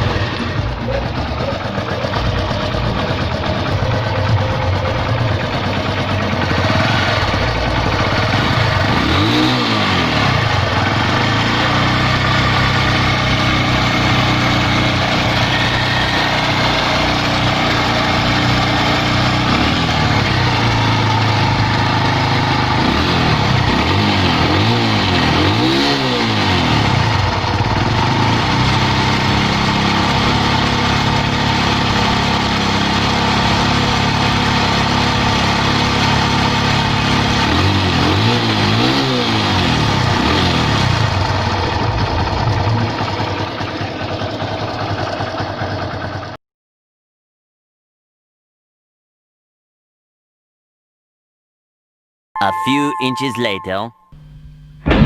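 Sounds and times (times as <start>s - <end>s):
motorcycle engine idling and revving: 0.0s - 46.4s, 54.2s - 55.0s.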